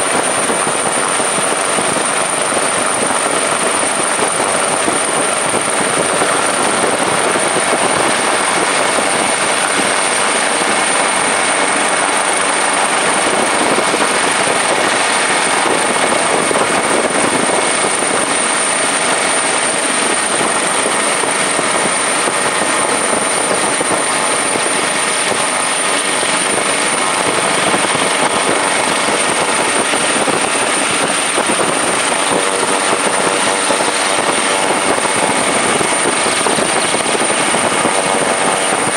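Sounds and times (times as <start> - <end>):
helicopter engine and rotor rush: 0.0 - 38.9
high steady whine: 0.0 - 38.9.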